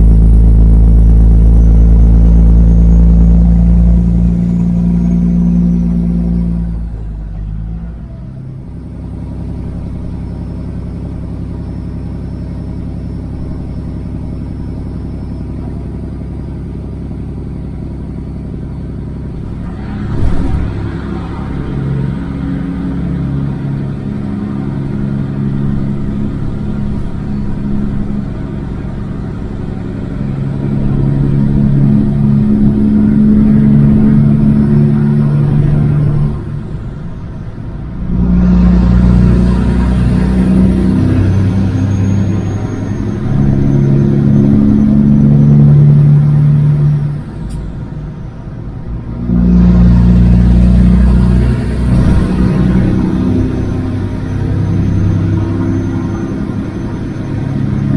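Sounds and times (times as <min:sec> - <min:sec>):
diesel truck engine running: 0:00.0 - 0:57.9.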